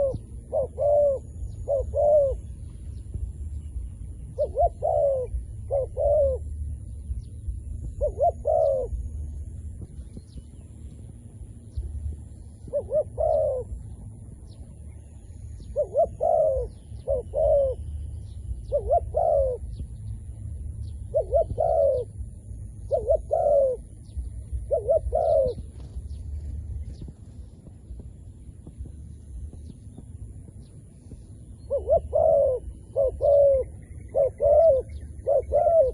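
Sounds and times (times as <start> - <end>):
dove cooing: 0.0 - 9.9, 11.8 - 14.5, 15.1 - 27.2, 31.4 - 35.9.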